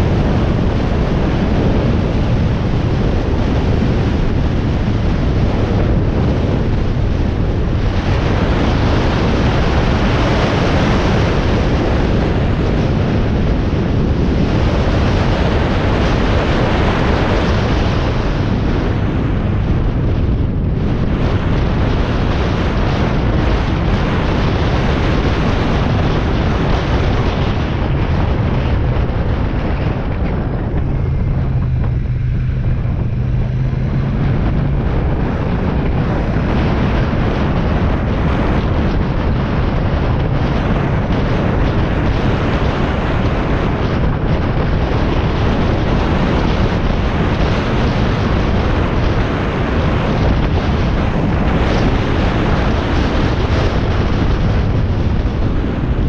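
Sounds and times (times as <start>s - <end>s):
wind buffeting microphone: 0.0s - 56.0s
motorcycle engine running: 11.1s - 56.0s.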